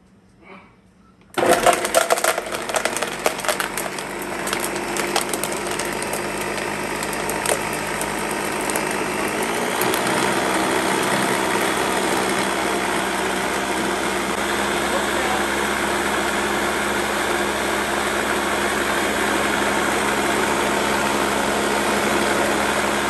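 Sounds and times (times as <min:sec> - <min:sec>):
blender motor whirring: 0:01.4 - 0:23.0.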